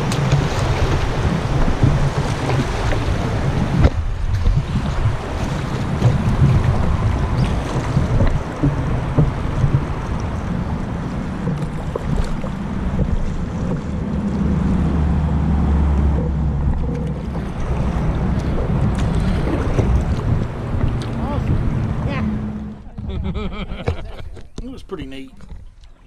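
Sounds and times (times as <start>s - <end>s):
river water rushing: 0.0s - 22.9s
wind buffeting microphone: 0.0s - 24.6s.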